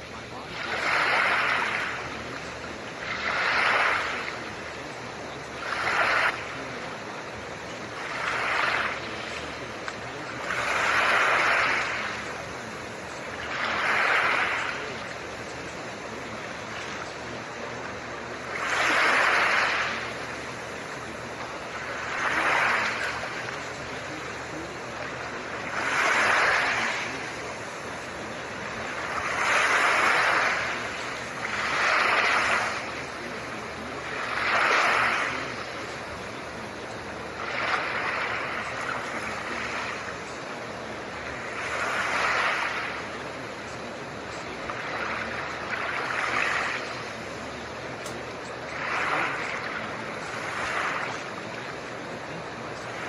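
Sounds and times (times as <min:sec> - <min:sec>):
soft ocean waves: 0:00.0 - 0:53.0
steady hiss: 0:00.0 - 0:53.0.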